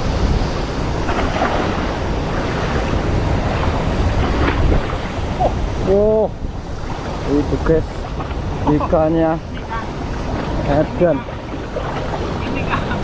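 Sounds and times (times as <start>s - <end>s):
rushing water: 0.0s - 13.0s
wind buffeting microphone: 0.0s - 13.0s.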